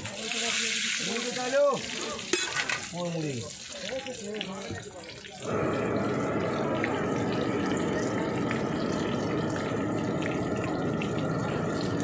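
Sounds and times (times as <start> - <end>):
food deep-frying in hot oil: 0.0 - 12.0
oil popping and crackling: 0.0 - 12.0.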